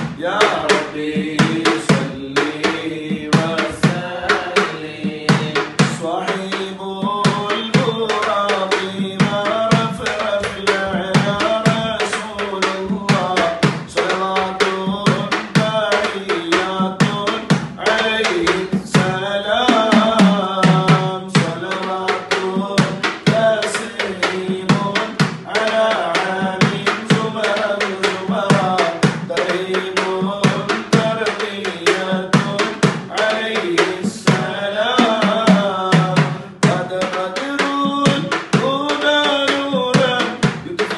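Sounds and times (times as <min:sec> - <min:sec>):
frame drum beating: 0:00.0 - 0:40.9
men singing devotional song: 0:00.0 - 0:40.9.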